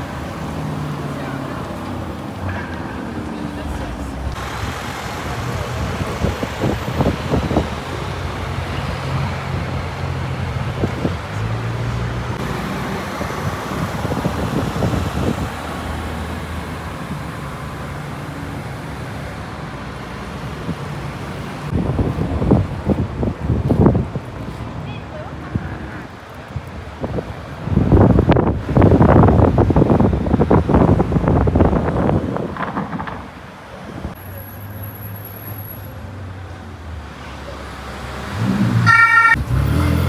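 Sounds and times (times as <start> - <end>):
car engines in traffic: 0.0 - 40.0
road noise: 0.0 - 40.0.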